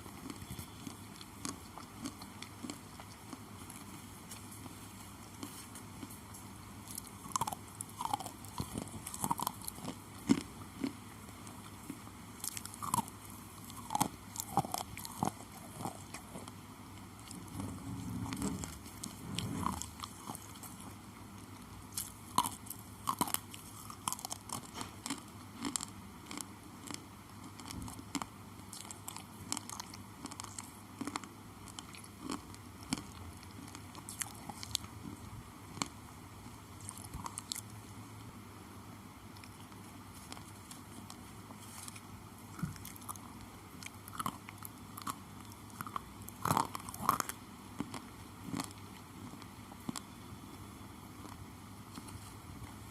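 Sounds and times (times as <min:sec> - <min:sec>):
slate pencils crunched by chewing: 0:00.2 - 0:34.9, 0:39.4 - 0:50.6.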